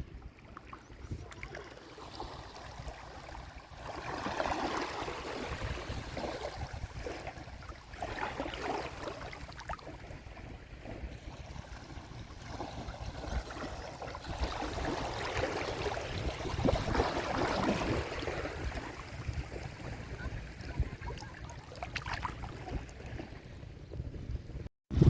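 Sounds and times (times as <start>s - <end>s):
sea waves washing on a beach: 0.2s - 23.7s.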